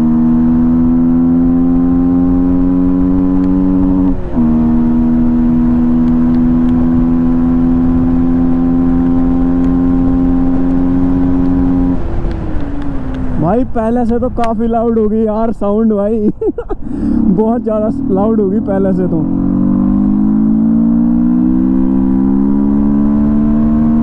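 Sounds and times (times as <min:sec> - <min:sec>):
motorcycle engine accelerating: 0:00.0 - 0:15.2, 0:16.5 - 0:24.0.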